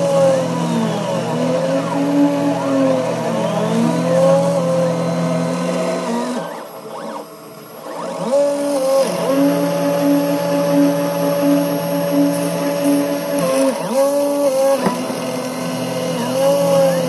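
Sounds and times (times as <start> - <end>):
cutter cutting metal: 0.0 - 17.0
mill motor whine: 0.0 - 17.0.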